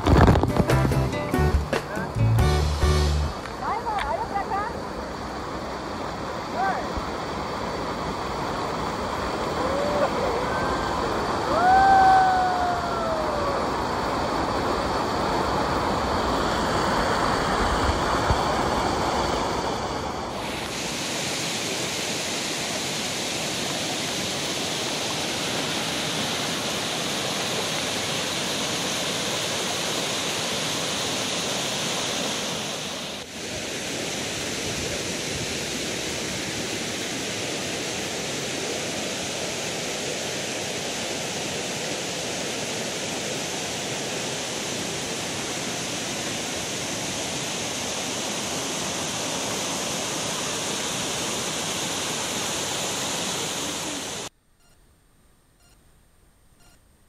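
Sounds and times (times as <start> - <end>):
stream running over rock: 0.0 - 0.7, 2.7 - 54.3.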